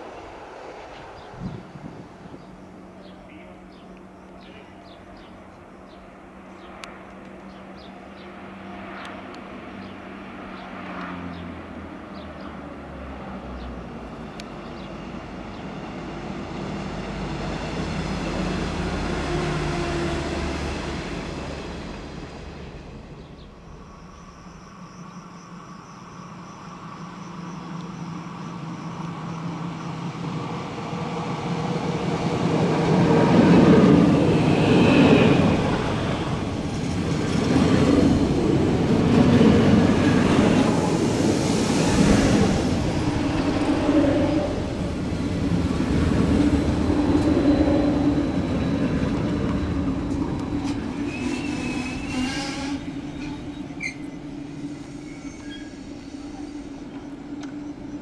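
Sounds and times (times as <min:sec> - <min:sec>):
electric train running on tracks: 0:00.0 - 0:58.0
train passing with high whine: 0:00.0 - 0:58.0.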